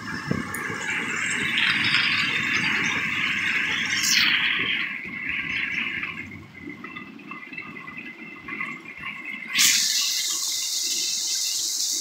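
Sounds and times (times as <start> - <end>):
hurricane wind and rain: 0.0 - 12.0.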